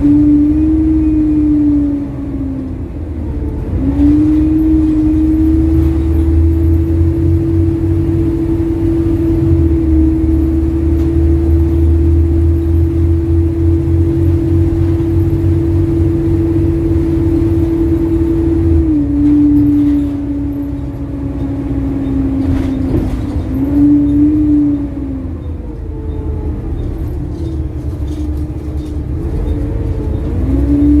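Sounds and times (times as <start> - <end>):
bus drivetrain whine: 0.0 - 31.0
low engine rumble: 0.0 - 31.0.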